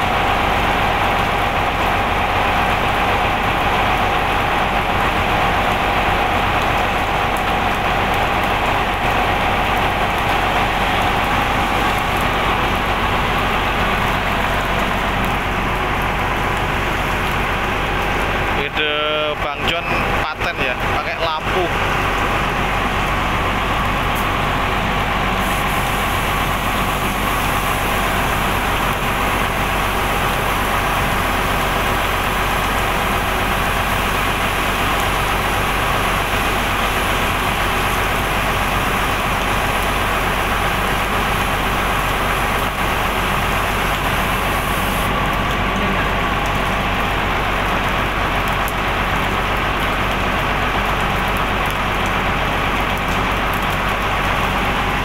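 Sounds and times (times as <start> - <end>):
large engine idling: 0.0 - 55.0.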